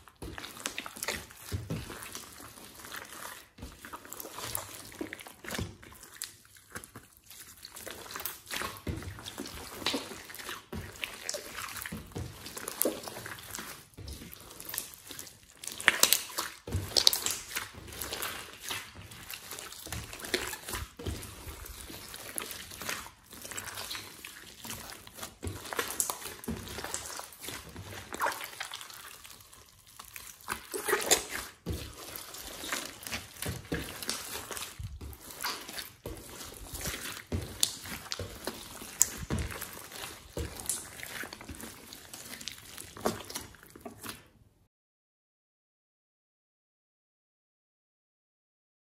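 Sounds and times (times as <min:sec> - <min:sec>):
slime squishing: 0:00.0 - 0:44.5.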